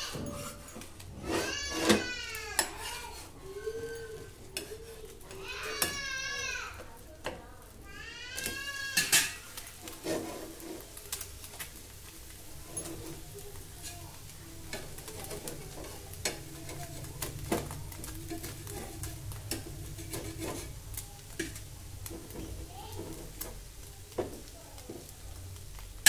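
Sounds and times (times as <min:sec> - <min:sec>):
dosa sizzling in a pan: 0:00.0 - 0:26.0.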